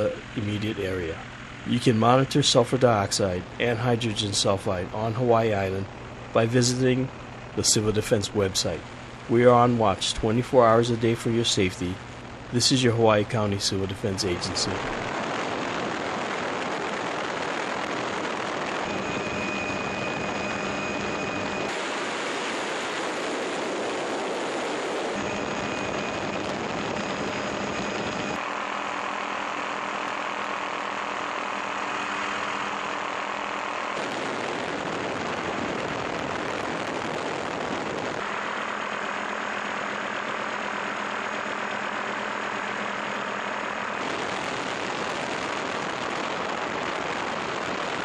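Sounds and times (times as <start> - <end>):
helicopter engine and rotor drone: 0.0 - 48.0.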